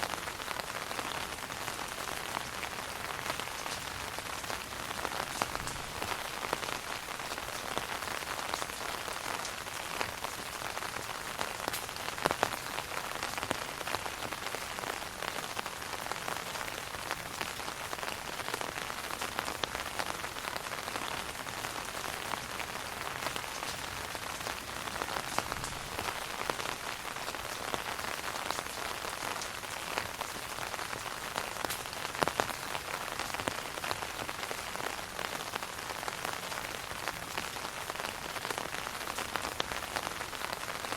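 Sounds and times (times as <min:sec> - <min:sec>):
rain on an umbrella: 0:00.0 - 0:40.9.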